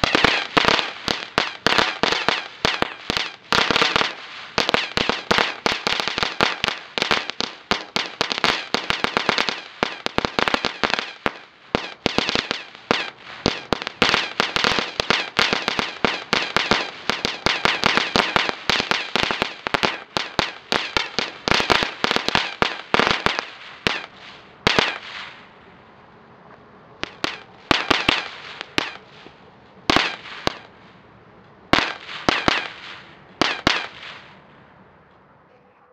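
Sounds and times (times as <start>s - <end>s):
firework crackling pops: 0.0s - 25.6s, 27.0s - 31.0s, 31.7s - 34.6s.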